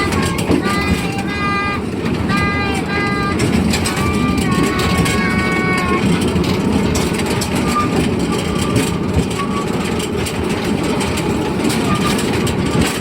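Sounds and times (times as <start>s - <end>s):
train rumbling and clattering on track: 0.0s - 13.0s.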